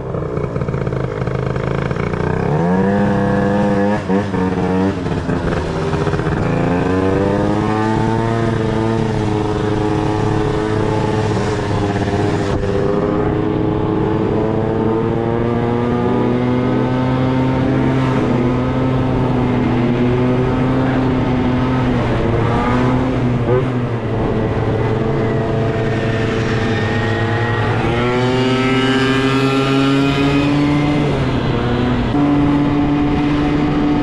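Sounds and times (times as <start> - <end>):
scooter engine running: 0.0 - 34.0.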